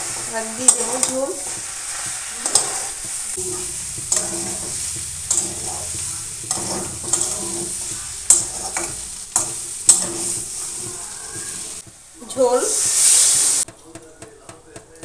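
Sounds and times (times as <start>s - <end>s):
metal spatula scraping pan: 0.0s - 13.7s
food sizzling in a pan: 0.0s - 15.0s.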